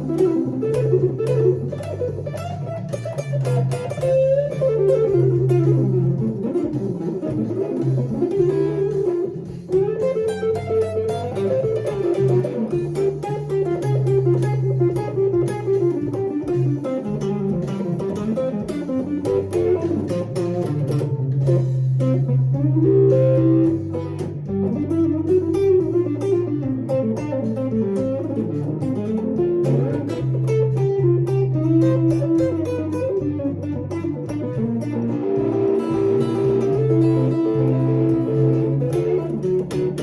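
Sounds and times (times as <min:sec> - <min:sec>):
electric guitar lead line: 0:00.0 - 0:40.0
steady bass line: 0:00.0 - 0:40.0.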